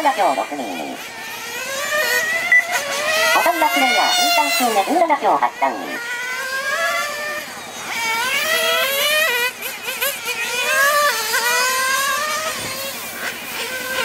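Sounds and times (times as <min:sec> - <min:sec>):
rc car nitro engine revving: 0:00.0 - 0:14.0.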